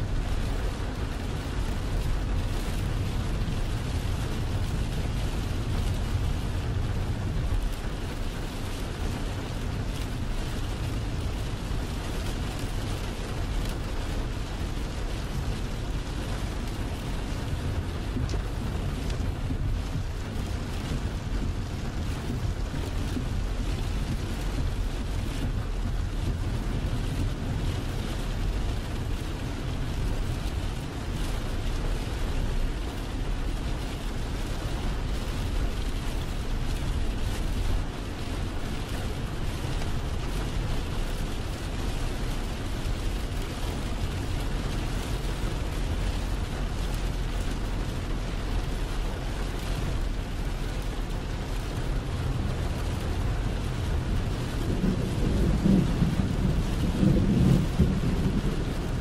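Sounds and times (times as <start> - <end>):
heavy rain on windshield: 0.0 - 59.0.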